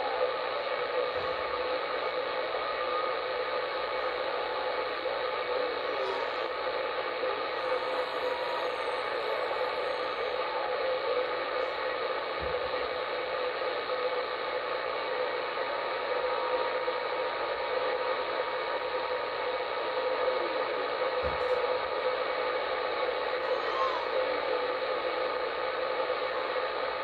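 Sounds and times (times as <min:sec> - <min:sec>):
faint steady whistle: 0:00.0 - 0:27.0
radio static hiss: 0:00.0 - 0:27.0.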